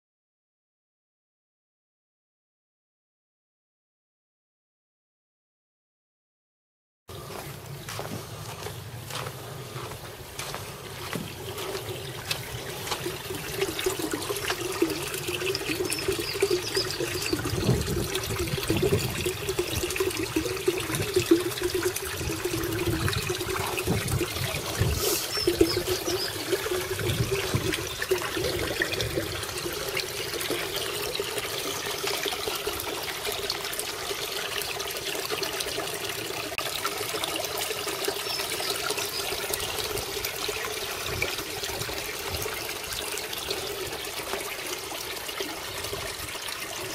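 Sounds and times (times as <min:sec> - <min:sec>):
water splashing into pond: 0:07.6 - 0:46.9.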